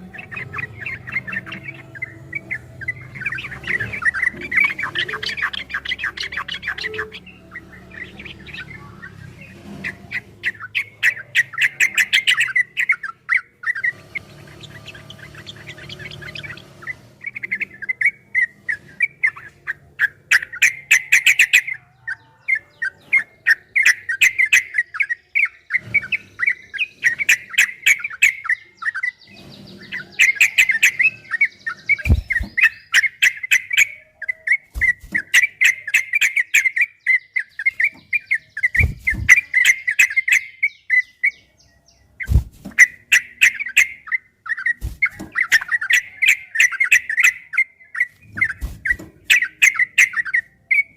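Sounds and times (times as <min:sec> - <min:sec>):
bird singing chattering song: 0:00.0 - 0:50.9.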